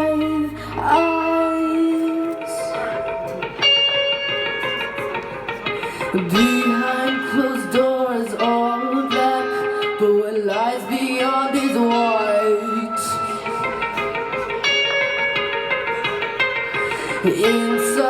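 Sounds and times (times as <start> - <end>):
lead guitar bending notes: 0.0 - 18.0
live rock band playing: 0.0 - 18.0.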